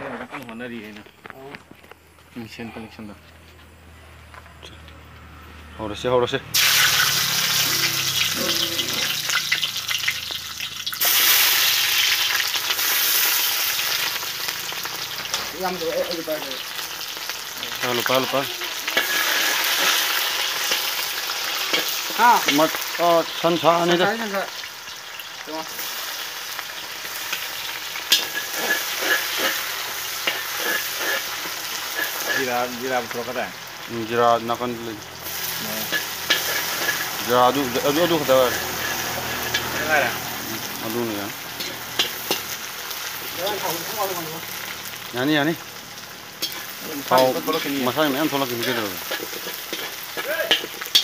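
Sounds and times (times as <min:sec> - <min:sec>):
food frying hiss: 0:06.4 - 0:51.0
hot oil sizzling in a wok: 0:06.4 - 0:51.0.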